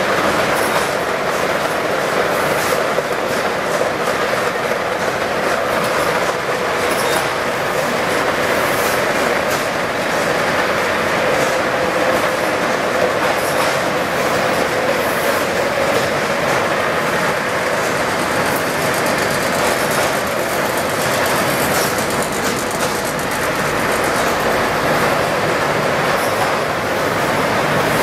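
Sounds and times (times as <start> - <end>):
packaging machine clatter and hum: 0.0 - 28.0.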